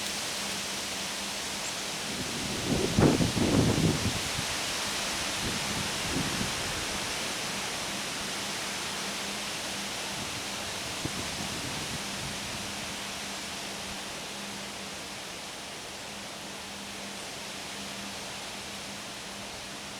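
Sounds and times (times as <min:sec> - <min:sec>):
wind rushing through trees: 0:00.0 - 0:19.9.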